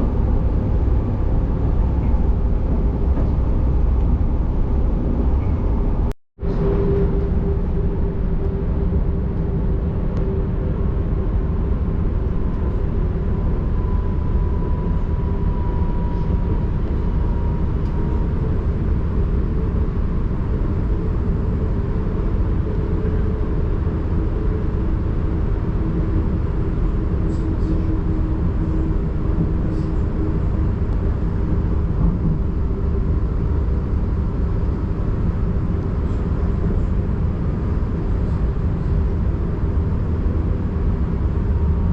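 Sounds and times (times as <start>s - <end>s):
train rumbling on tracks: 0.0s - 41.9s.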